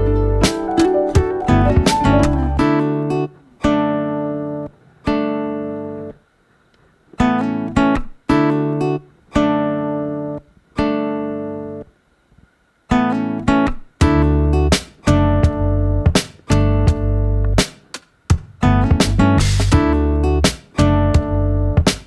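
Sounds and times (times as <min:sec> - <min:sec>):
acoustic guitar chords: 0:00.0 - 0:06.2, 0:07.2 - 0:11.9, 0:12.9 - 0:22.0.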